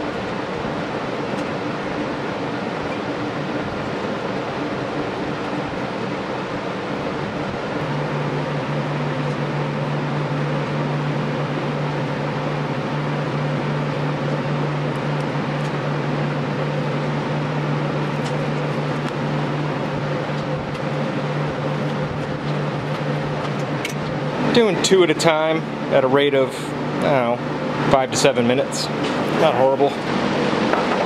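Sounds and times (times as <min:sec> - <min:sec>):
electric fan airy rush: 0:00.0 - 0:31.0
low steady hum: 0:00.0 - 0:31.0.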